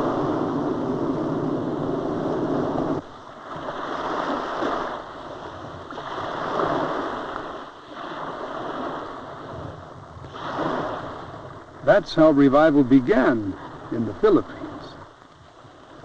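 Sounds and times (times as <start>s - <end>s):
ocean waves washing in: 0.0s - 16.0s.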